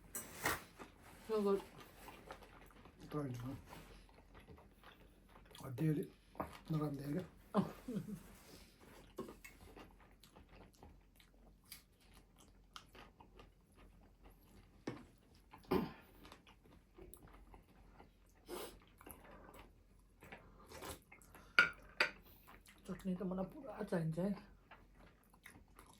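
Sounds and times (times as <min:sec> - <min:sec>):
person chewing: 0:01.6 - 0:07.2, 0:08.3 - 0:22.9, 0:24.5 - 0:25.9.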